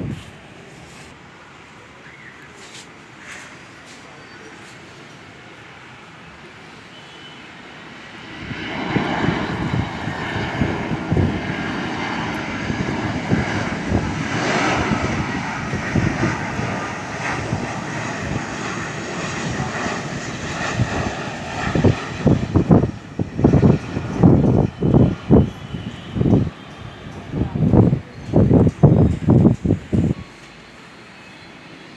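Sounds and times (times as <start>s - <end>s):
airliner engine rush: 0.0s - 31.9s
faint engine whine: 0.0s - 31.9s.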